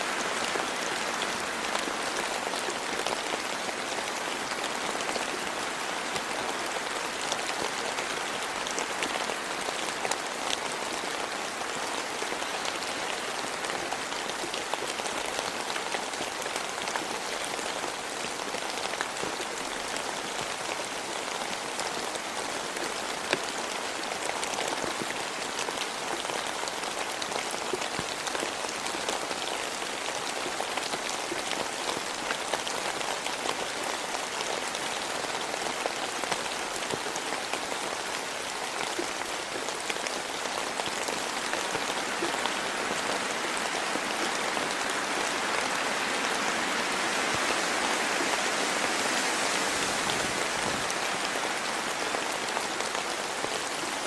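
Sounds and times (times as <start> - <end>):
rain pattering on surfaces: 0.0 - 54.0.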